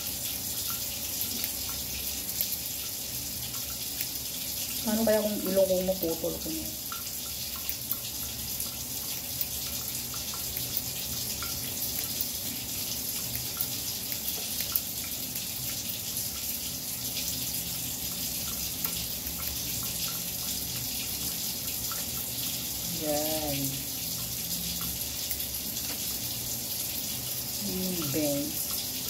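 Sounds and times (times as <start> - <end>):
water running from a tap: 0.0 - 29.0.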